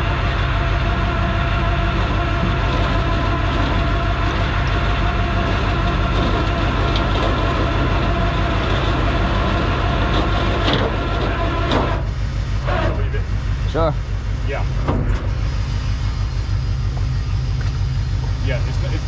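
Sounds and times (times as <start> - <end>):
steady whining tones: 0.0 - 19.0
truck engine running: 0.0 - 19.0.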